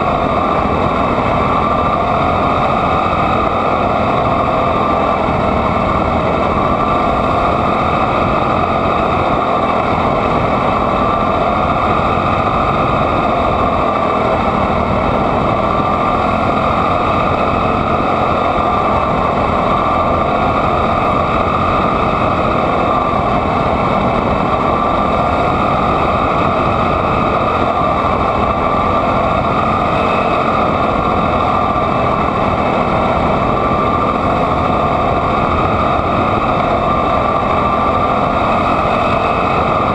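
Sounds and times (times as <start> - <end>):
small race car engine running: 0.0 - 39.9.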